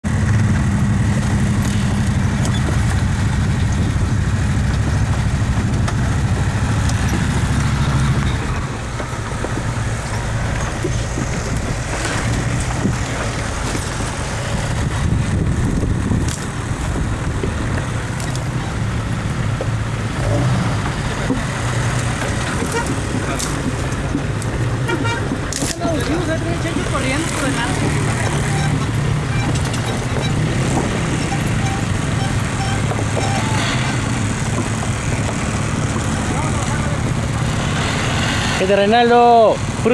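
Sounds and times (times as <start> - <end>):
atv engines rumbling: 0.0 - 39.9.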